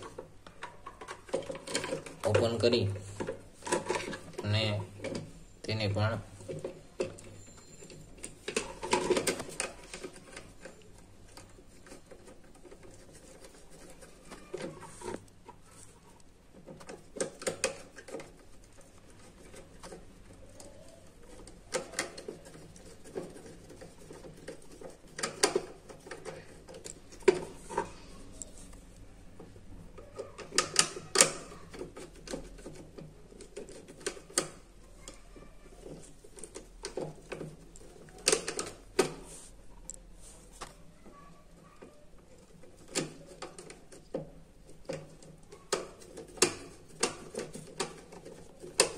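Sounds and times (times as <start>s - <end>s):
handling noise of wires: 0.0s - 48.9s.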